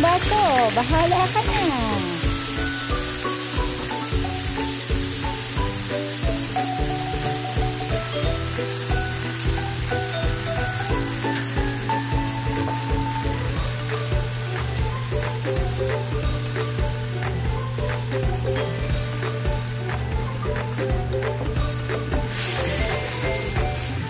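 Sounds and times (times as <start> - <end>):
background music with steady beat: 0.0 - 24.0
vegetables sizzling in a pan: 0.0 - 24.0.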